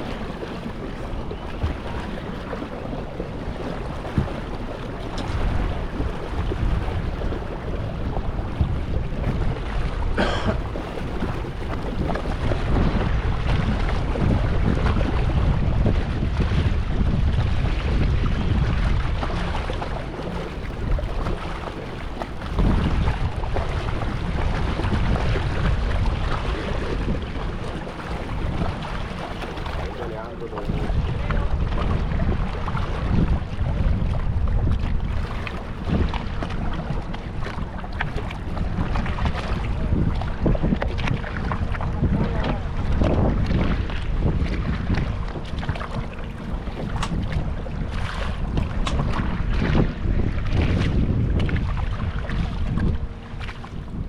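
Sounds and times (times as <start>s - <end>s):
rushing water: 0.0s - 54.0s
wind buffeting microphone: 0.0s - 54.0s.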